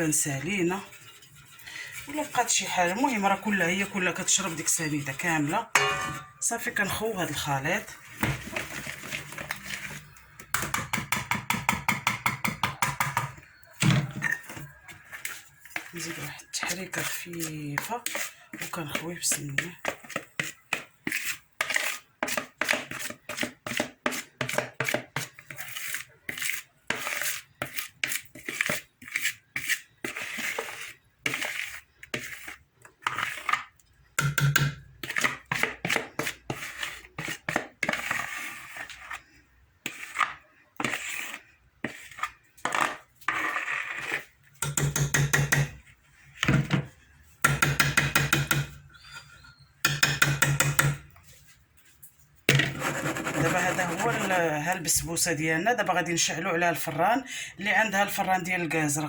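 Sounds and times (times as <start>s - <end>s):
spoon scraping a mixing bowl: 0.0s - 57.2s.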